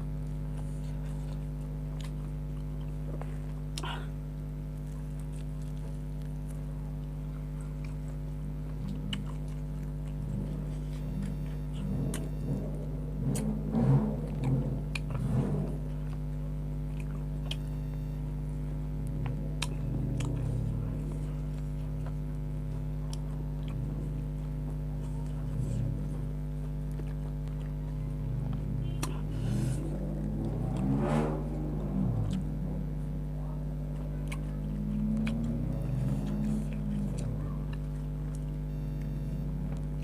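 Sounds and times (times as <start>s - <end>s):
low electrical hum: 0.0s - 40.0s
person chewing: 0.0s - 40.0s.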